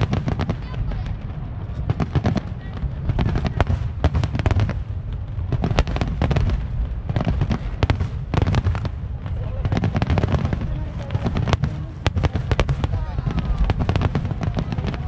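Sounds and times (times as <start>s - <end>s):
fireworks cracks and bangs: 0.0s - 15.0s.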